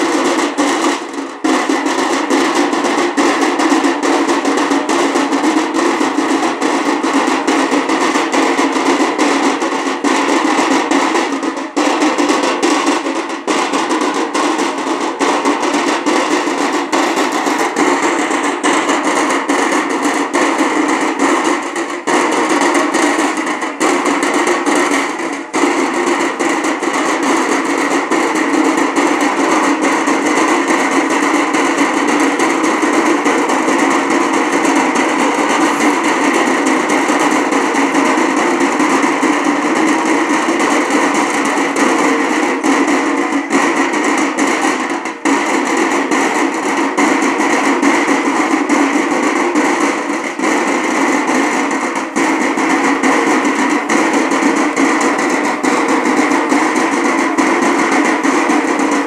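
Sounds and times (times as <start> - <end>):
drums beaten in fast rhythm: 0.0 - 59.0.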